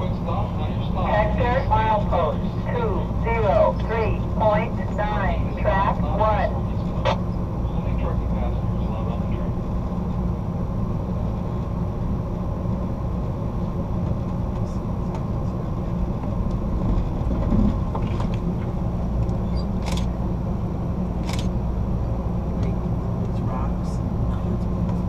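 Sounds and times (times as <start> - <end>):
train car rumbling on track: 0.0 - 25.0.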